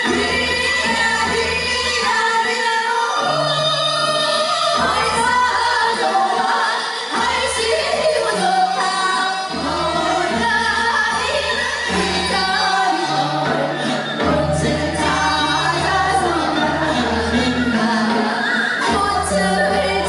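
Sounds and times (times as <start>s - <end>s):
women singing folk song: 0.0s - 20.0s.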